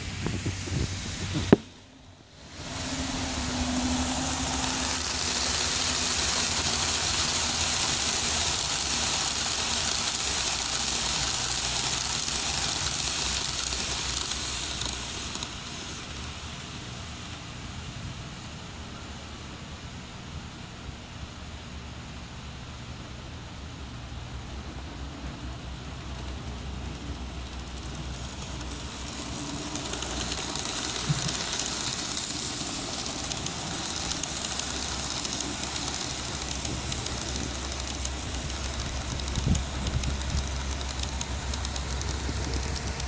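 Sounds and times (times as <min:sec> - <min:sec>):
model train rolling whir: 0:00.0 - 0:43.0.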